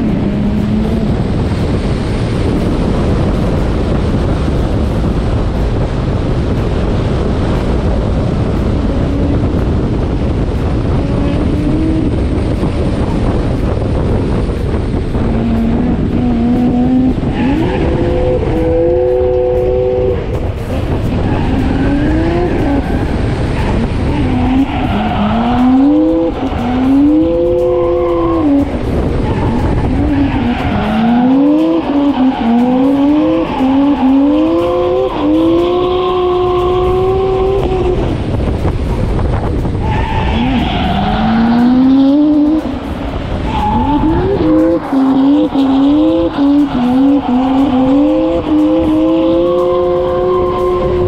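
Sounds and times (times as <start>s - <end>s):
car engine revving: 0.0s - 51.0s
road and wind noise: 0.0s - 51.0s.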